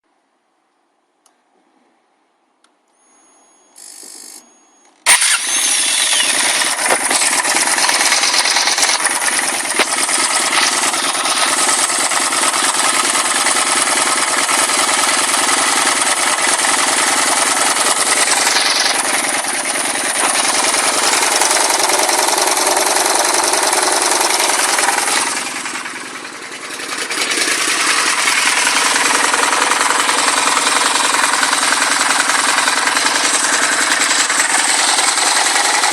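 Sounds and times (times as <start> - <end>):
engine knocking clatter: 5.1 - 35.9.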